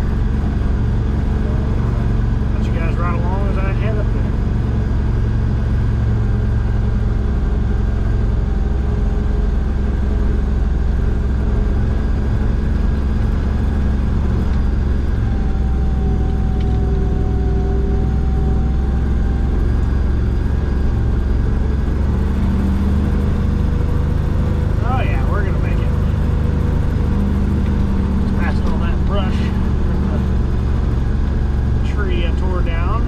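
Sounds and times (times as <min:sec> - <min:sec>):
faint whining tones: 0:00.0 - 0:33.0
truck engine droning under load: 0:00.0 - 0:33.0.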